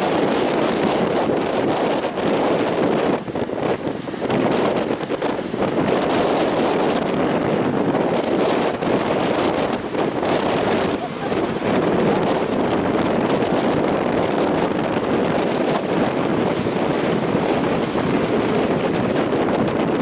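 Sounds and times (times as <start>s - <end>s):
heavy surf: 0.0s - 20.0s
wind blowing on microphone: 0.0s - 20.0s.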